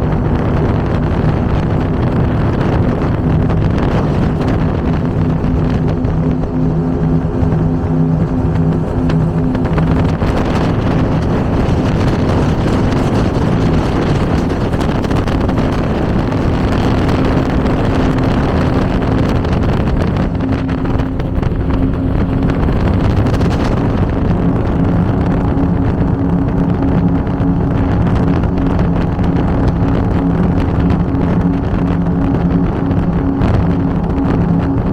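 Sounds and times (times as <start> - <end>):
powerboat engines droning: 0.0 - 34.9.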